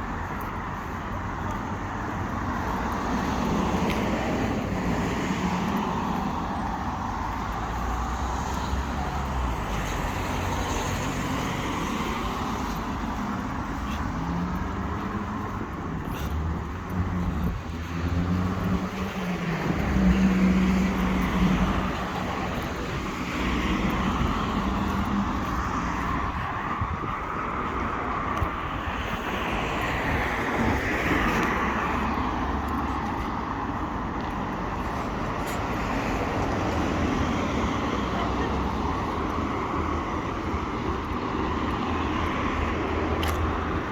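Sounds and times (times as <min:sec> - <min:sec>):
passing cars: 0:00.0 - 0:43.9.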